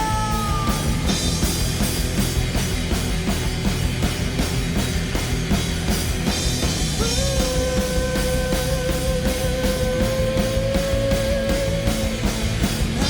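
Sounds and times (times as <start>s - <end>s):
drum kit beat: 0.0s - 13.0s
rock band playing: 0.0s - 13.0s.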